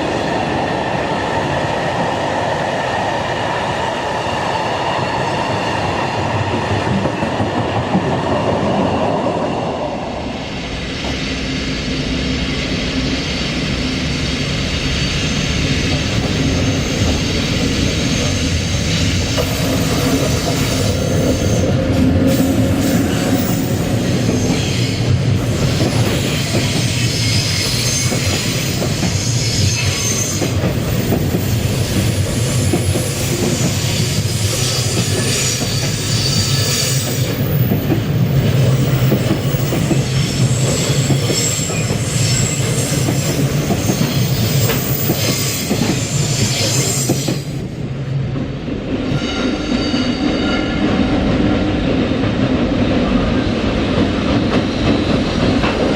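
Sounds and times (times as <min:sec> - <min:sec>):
train wagons rumbling and clattering: 0:00.0 - 0:55.9.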